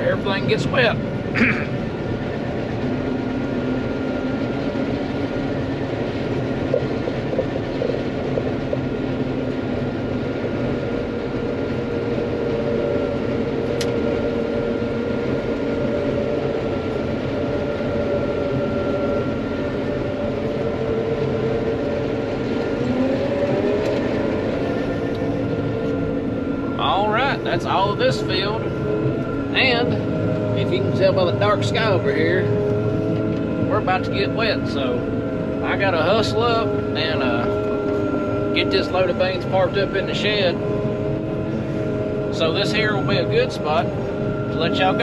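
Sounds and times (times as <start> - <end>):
combine harvester engine drone: 0.0 - 45.0.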